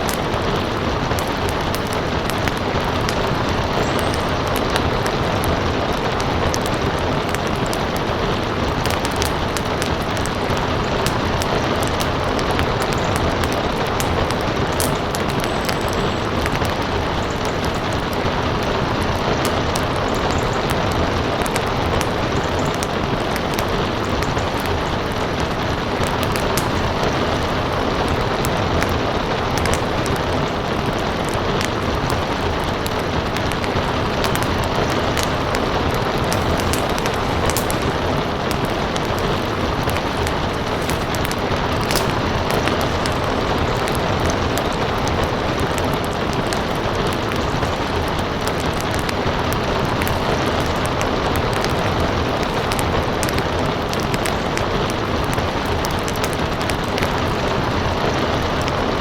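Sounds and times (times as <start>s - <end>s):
crackling wood fire: 0.0s - 59.0s
steady rain hiss: 0.0s - 59.0s.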